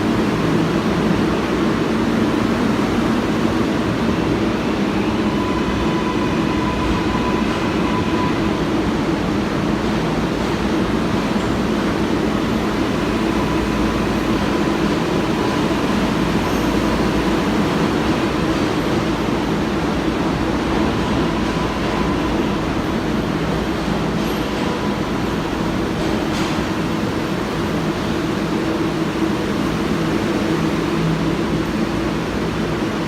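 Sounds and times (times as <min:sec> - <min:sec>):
subway train running: 0:00.0 - 0:33.0.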